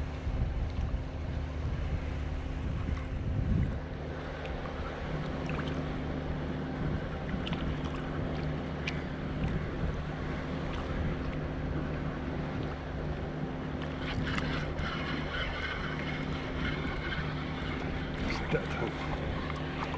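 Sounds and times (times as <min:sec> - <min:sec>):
low engine hum: 0:00.0 - 0:19.9
wind noise on microphone: 0:00.0 - 0:19.9.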